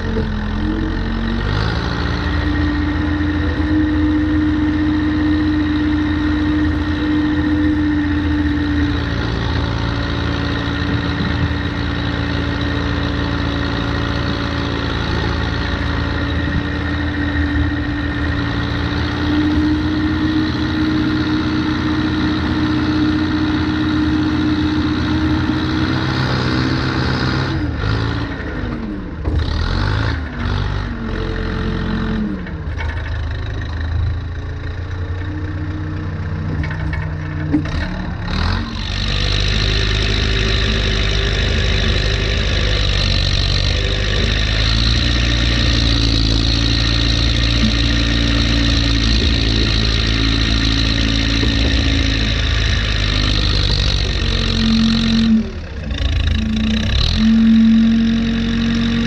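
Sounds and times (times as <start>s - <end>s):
diesel engine running: 0.0s - 59.0s
loader bucket pushing snow: 0.0s - 59.0s.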